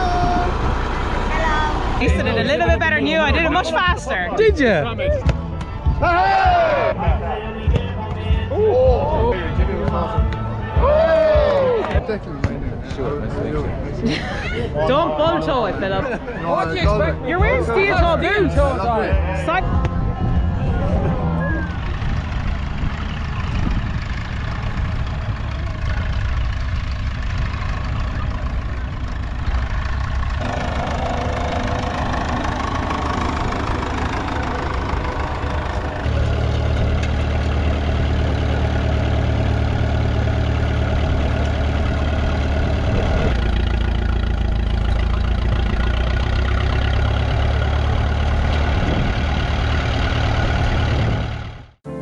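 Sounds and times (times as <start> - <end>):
tractor engine running: 0.0 - 13.9, 14.8 - 52.0.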